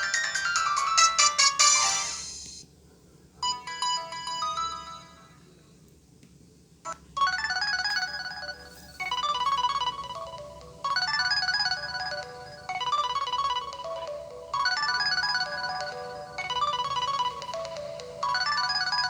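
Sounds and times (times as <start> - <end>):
phone ringtone melody: 0.0 - 2.4, 3.4 - 5.3, 6.9 - 19.0.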